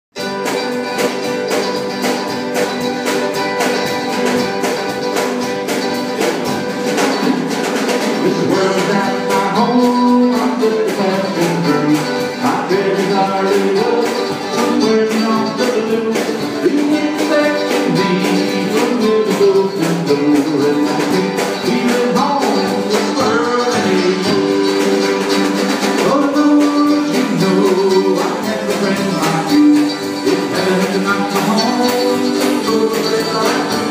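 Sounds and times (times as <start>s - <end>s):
drum kit: 0.1s - 33.9s
mandolin melody: 0.2s - 33.9s
strummed acoustic guitar: 0.2s - 33.9s.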